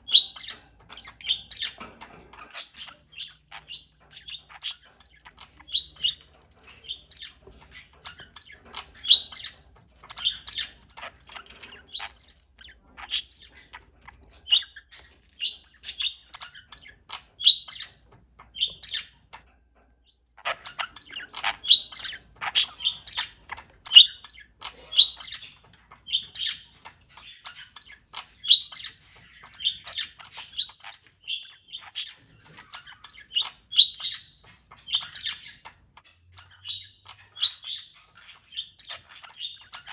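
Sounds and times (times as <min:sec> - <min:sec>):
parakeet chirping: 0:00.0 - 0:39.9.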